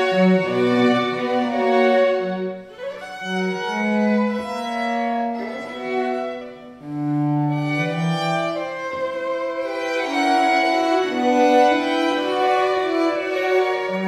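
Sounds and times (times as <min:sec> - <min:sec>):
string ensemble playing held notes: 0:00.0 - 0:14.0.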